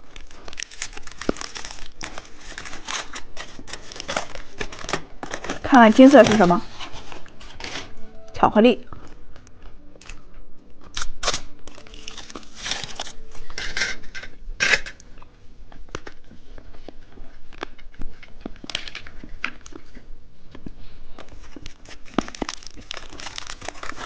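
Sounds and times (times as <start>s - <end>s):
candy wrappers crinkling: 0.0s - 8.0s, 9.0s - 24.0s.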